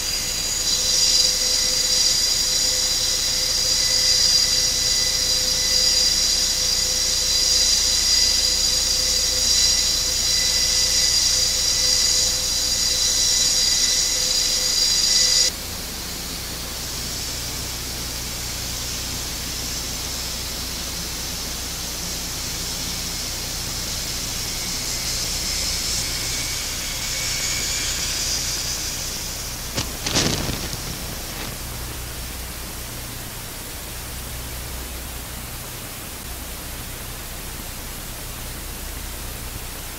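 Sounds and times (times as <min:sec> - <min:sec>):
high-pitched turbine whine: 0:00.0 - 0:39.9.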